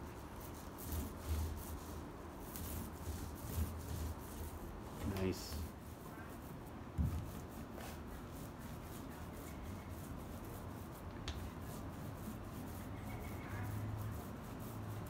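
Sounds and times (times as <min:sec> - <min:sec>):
paint roller rubbing on hull: 0:00.0 - 0:15.0.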